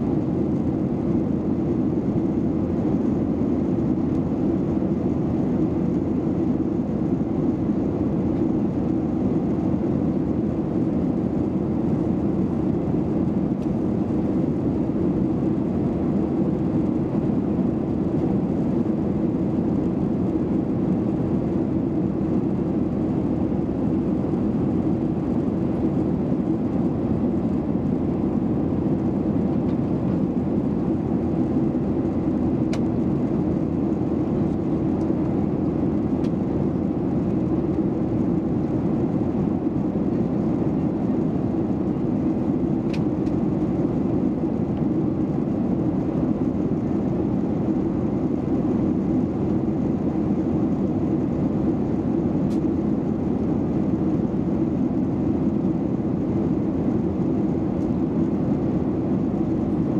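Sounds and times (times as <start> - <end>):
plane engine drone in cabin: 0.0 - 59.9.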